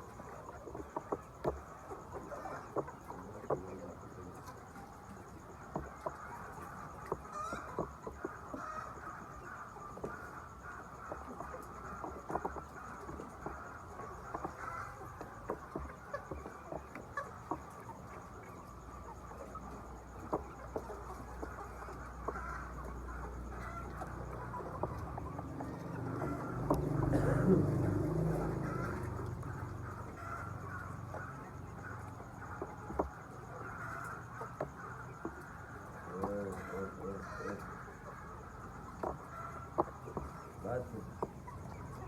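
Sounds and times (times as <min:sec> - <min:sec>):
hens clucking: 0:00.0 - 0:42.0.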